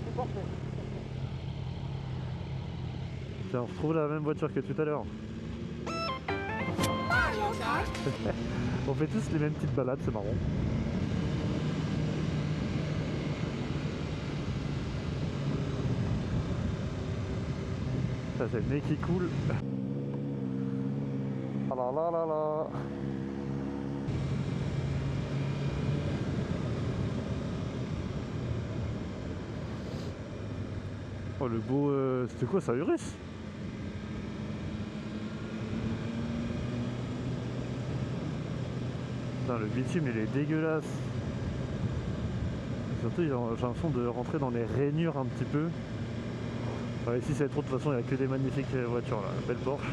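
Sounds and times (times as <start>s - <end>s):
wind and road rush: 0.0s - 5.8s, 7.2s - 21.8s, 22.7s - 49.9s.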